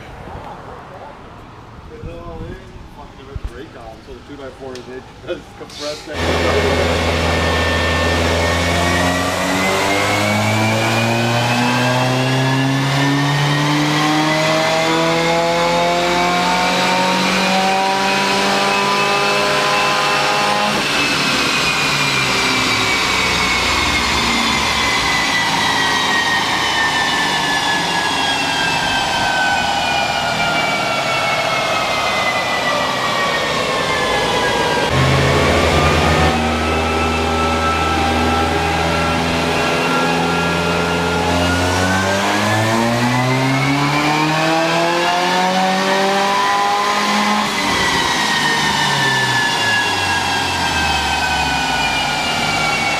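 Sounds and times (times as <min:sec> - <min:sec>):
car engine revving on dyno: 0:06.1 - 0:52.9.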